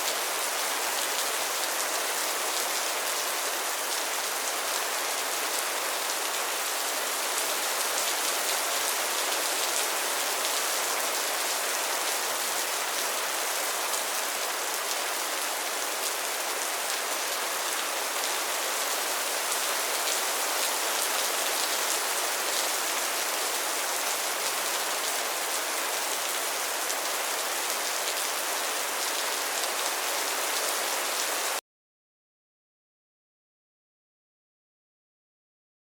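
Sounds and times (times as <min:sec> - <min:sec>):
heavy rain falling: 0:00.0 - 0:31.6.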